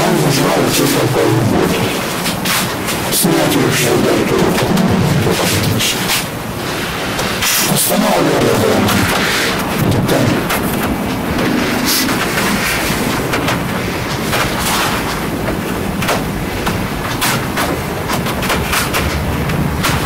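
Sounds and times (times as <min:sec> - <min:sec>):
steady loud background noise: 0:00.0 - 0:20.0.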